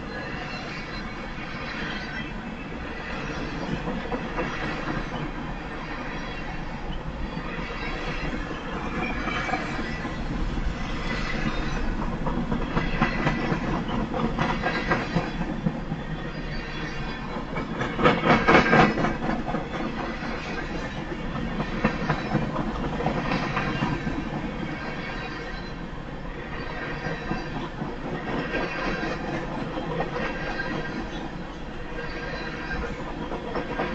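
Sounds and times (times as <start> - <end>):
freight train rolling past: 0.0 - 33.9.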